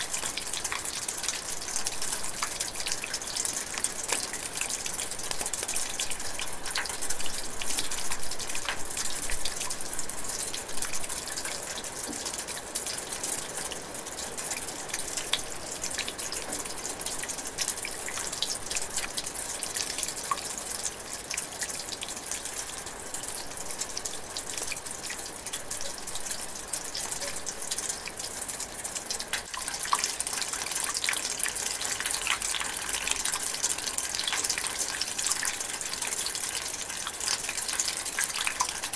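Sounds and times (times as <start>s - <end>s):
light rain drizzling: 0.0s - 38.9s
raindrops ticking: 0.0s - 38.9s.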